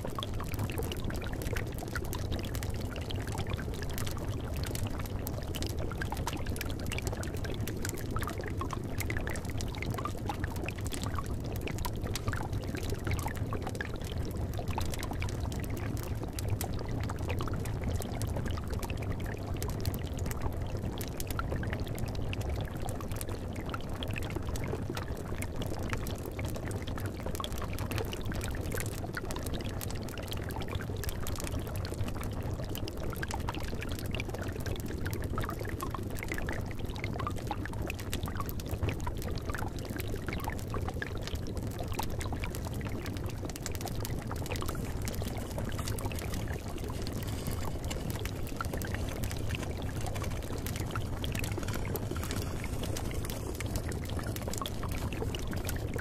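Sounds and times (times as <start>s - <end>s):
liquid bubbling in a cauldron: 0.0s - 56.0s.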